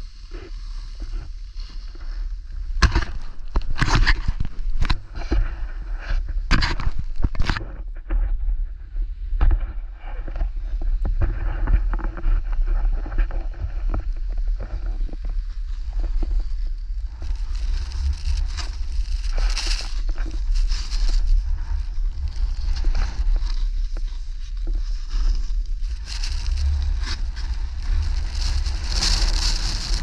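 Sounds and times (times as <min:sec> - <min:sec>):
skis sliding on snow: 0:00.0 - 0:06.5, 0:10.6 - 0:30.0
wind buffeting microphone: 0:02.0 - 0:30.0.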